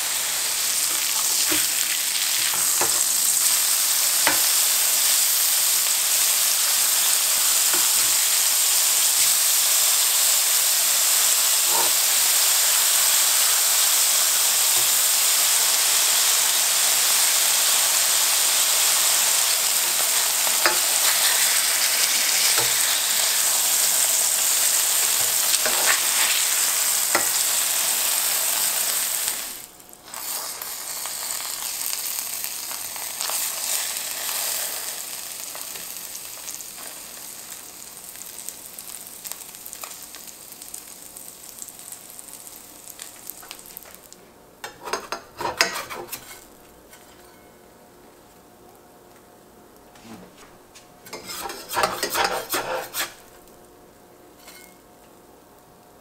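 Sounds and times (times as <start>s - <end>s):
meat sizzling in a skillet: 0.0s - 46.5s, 51.1s - 53.5s.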